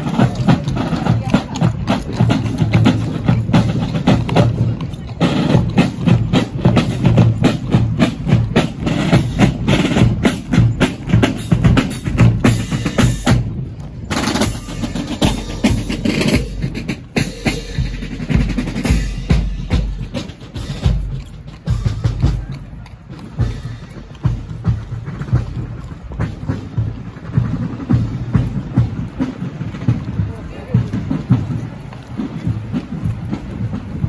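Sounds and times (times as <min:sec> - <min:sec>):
snare drums marching cadence: 0:00.0 - 0:34.0.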